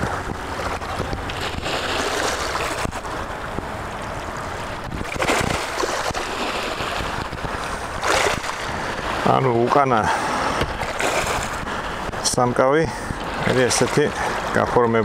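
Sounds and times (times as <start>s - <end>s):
sea surf washing in: 0.0s - 15.0s
wind buffeting microphone: 0.0s - 15.0s.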